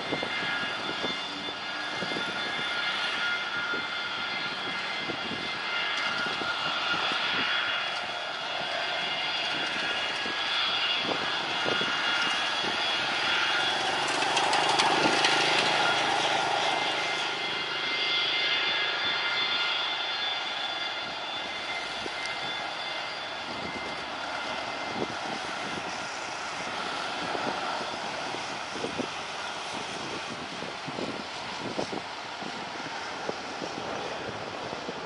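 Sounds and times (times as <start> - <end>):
jet engines whining: 0.0 - 35.0.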